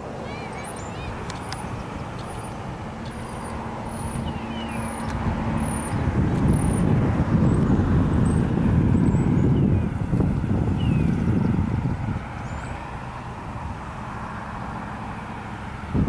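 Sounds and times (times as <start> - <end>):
low rough rumble: 0.0 - 16.0.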